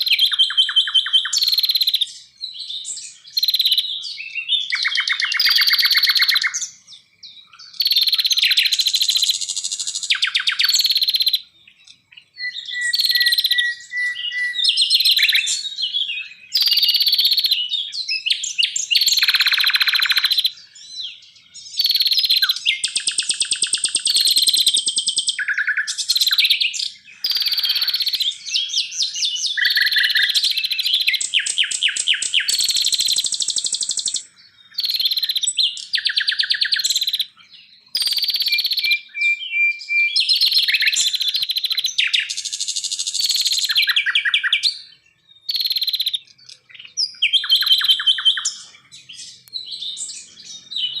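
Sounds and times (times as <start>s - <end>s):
songbird trilling: 0.0s - 51.0s.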